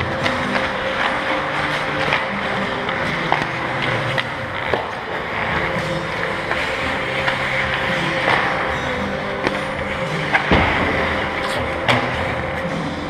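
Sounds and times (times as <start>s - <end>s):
skates scraping on ice: 0.0s - 13.0s
sticks and puck clacking: 0.0s - 13.0s.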